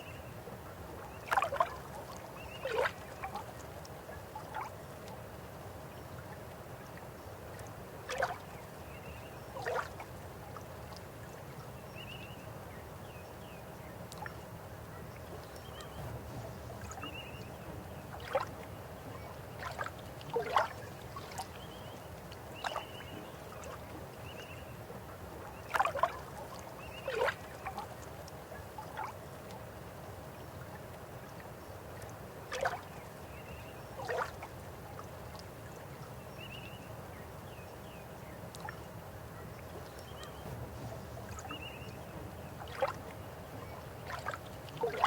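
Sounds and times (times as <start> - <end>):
river water flowing: 0.0 - 45.0.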